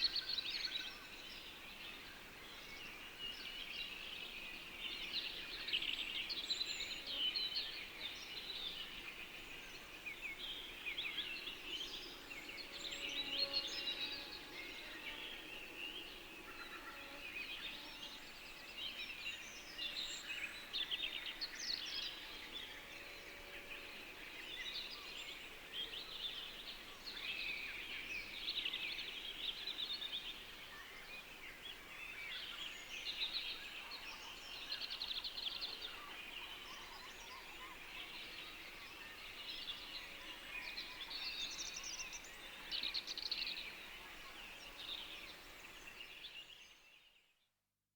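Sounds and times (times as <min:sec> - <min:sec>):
small birds chirping and singing: 0:00.0 - 0:47.3.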